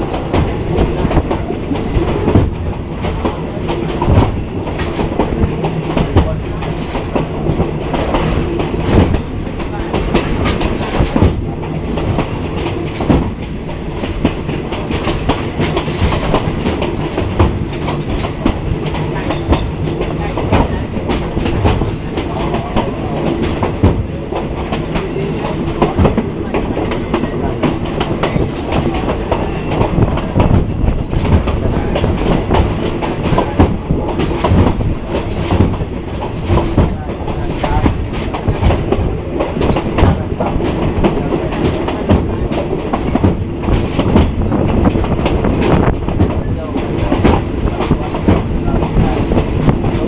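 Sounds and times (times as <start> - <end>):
train carriage rumbling: 0.0 - 50.0.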